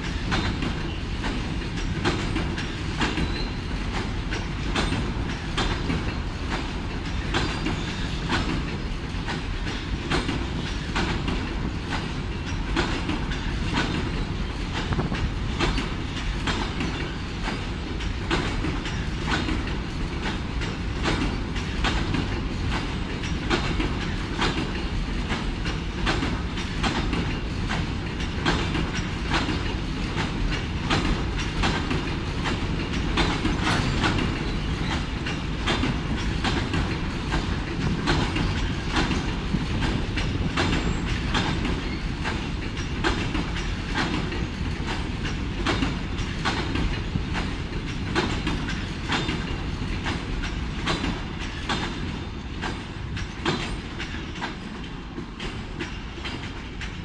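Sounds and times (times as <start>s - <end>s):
freight train rumbling: 0.0s - 57.0s
wheels clacking over rail joints: 0.0s - 57.0s.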